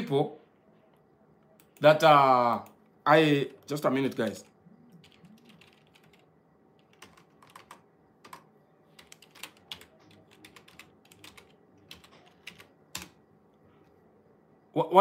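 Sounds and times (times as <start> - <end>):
faint keyboard typing: 0.8 - 14.0.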